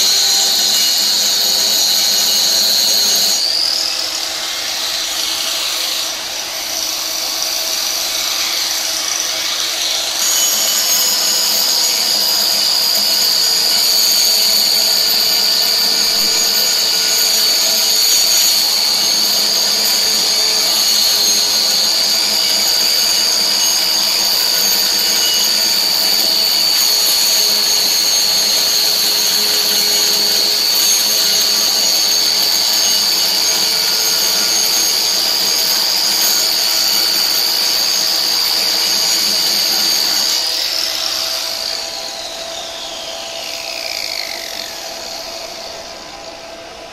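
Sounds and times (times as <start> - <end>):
power tool whining: 0.0 - 46.9.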